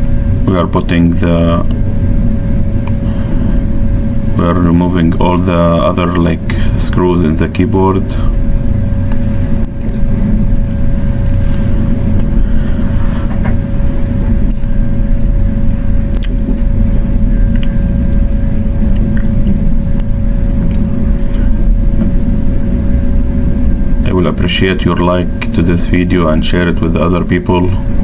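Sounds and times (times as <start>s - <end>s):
fan hum: 0.0s - 28.0s.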